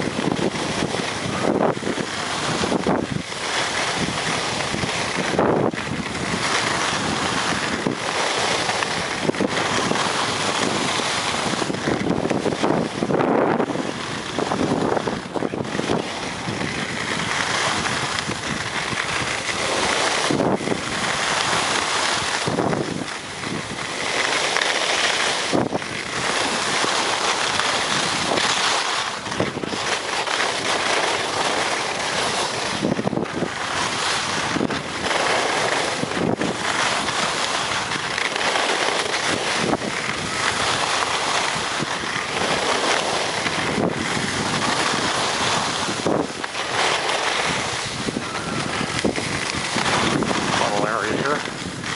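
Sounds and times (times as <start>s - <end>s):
skis scraping on snow: 0.0s - 51.9s
wind noise on microphone: 0.0s - 51.9s.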